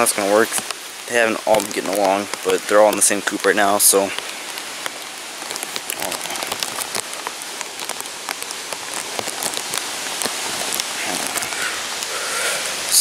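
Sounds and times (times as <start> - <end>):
heavy rain pouring: 0.0 - 13.0
raindrops tapping plastic bag: 0.0 - 13.0.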